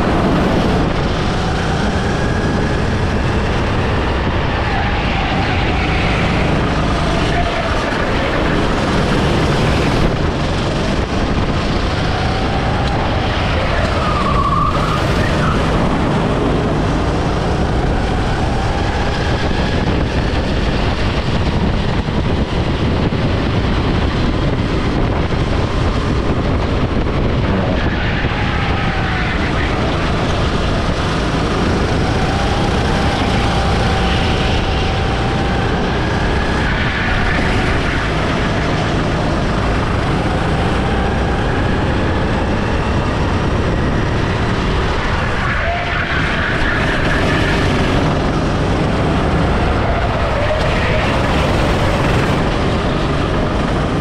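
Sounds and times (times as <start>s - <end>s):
go-kart engine revving: 0.0s - 54.0s
rushing wind noise: 0.0s - 54.0s.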